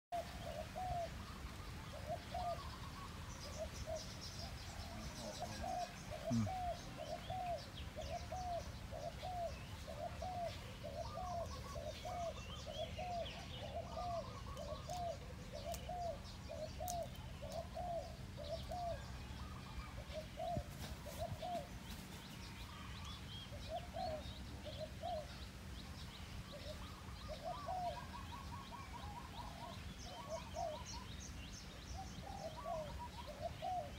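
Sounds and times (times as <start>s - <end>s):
small birds chirping faintly: 0.1s - 33.9s
dove cooing: 0.2s - 25.6s, 26.4s - 33.9s.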